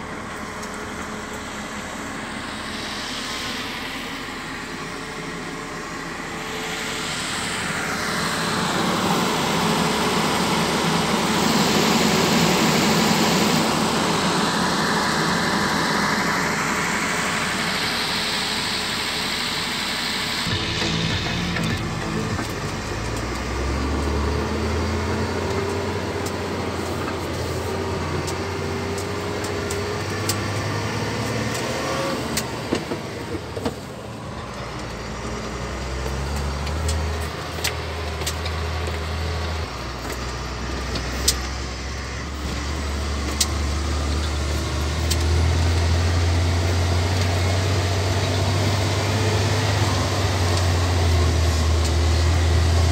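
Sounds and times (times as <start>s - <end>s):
diesel truck engine rumble: 0.0s - 52.9s.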